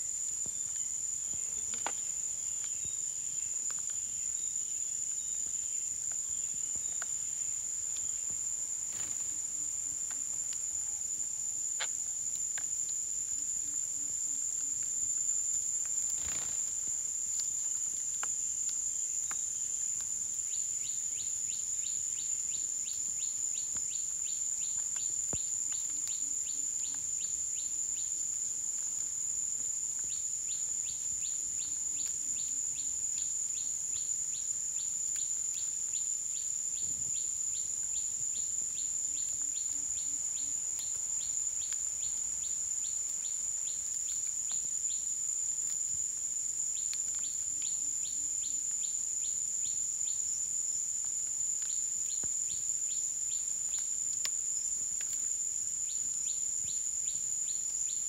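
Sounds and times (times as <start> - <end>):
insect chirps: 0.0 - 58.0
insects droning: 0.0 - 58.0.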